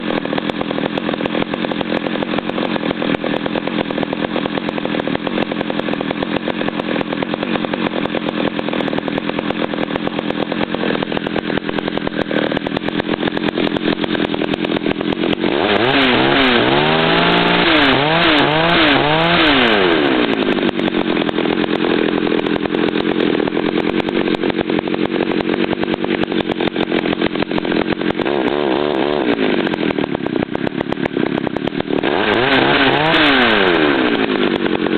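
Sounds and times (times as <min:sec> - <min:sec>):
chainsaw idling and revving: 0:00.0 - 0:34.9.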